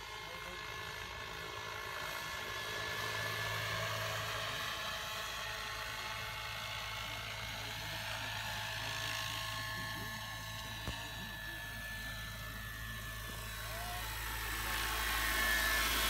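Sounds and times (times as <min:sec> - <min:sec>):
model helicopter motor whine: 0:00.0 - 0:16.0
low hum: 0:02.5 - 0:16.0.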